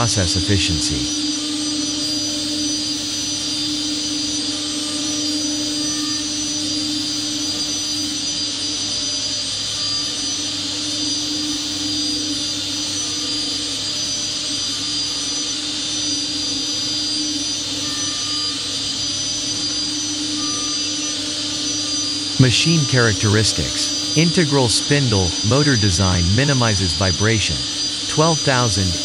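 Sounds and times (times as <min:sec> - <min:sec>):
milling machine humming and whining: 0:00.0 - 0:29.0.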